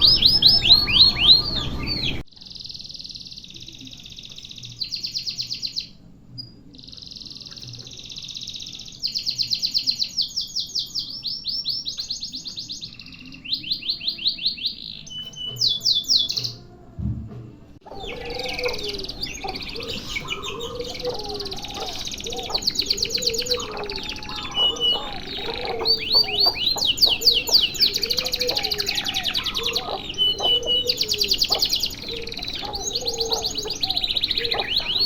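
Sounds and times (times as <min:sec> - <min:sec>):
canary trilling song: 0:00.0 - 0:16.7, 0:17.8 - 0:35.0
busy birdsong: 0:00.0 - 0:17.0, 0:17.6 - 0:35.0.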